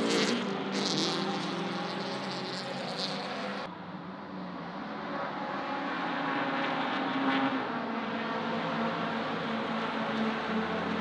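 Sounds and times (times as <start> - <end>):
race car engine: 0.0 - 11.0.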